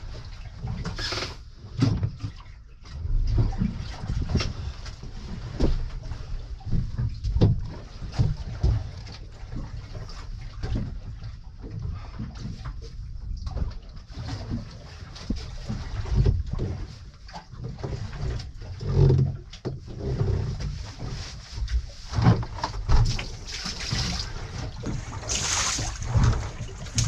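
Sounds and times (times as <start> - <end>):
constant low rumble: 0.0 - 27.0
knocks and splashes: 0.0 - 27.0
water slapping against boat hull: 0.0 - 27.0.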